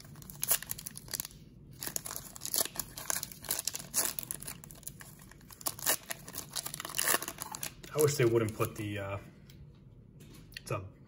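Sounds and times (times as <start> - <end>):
plastic wrapper crinkling: 0.0 - 9.0.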